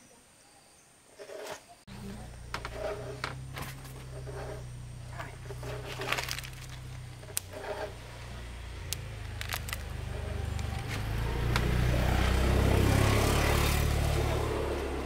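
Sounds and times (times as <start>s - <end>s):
heavy engine running: 1.9s - 15.0s.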